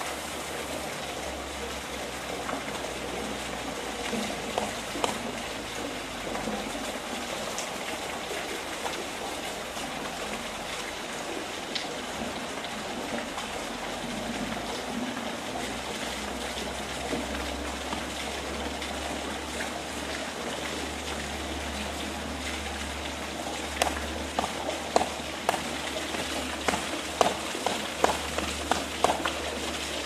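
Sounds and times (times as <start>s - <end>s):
water pouring from pipe: 0.0s - 30.0s.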